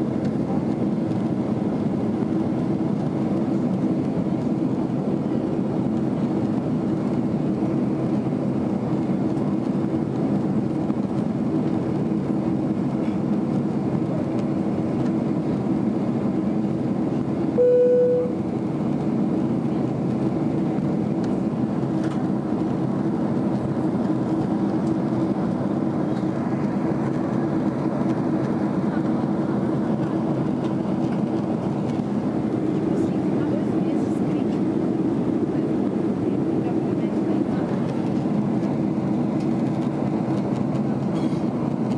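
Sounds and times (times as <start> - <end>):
airplane cabin engine noise: 0.0 - 41.9.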